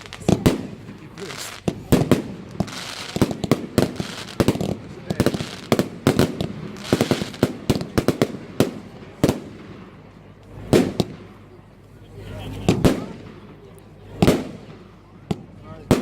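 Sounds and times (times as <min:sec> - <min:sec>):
fireworks bangs and cracks: 0:00.0 - 0:11.7, 0:12.5 - 0:16.0.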